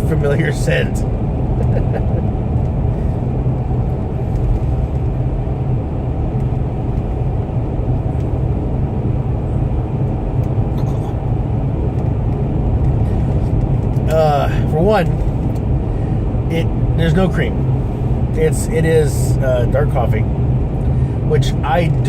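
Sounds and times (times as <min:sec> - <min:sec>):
car engine rumble inside cabin: 0:00.0 - 0:22.0.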